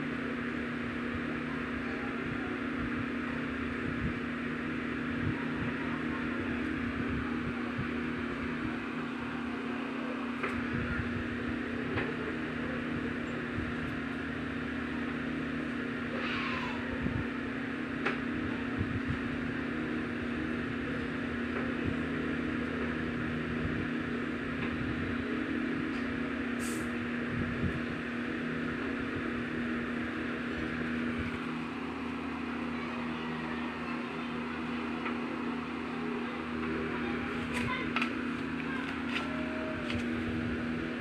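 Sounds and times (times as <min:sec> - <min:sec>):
electric fan humming: 0:00.0 - 0:41.0.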